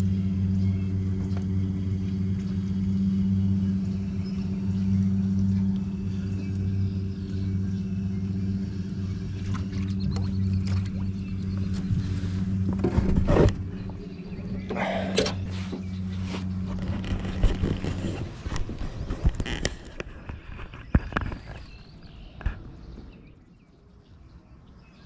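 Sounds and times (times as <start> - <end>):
outboard motor droning: 0.0 - 25.0.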